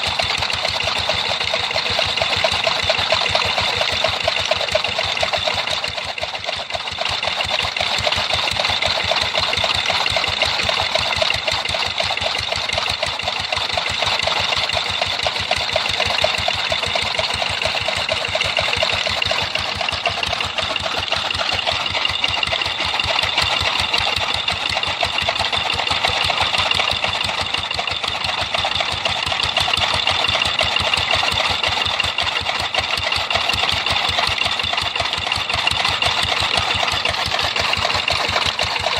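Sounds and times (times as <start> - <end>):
engine running with regular knocking: 0.0 - 38.9.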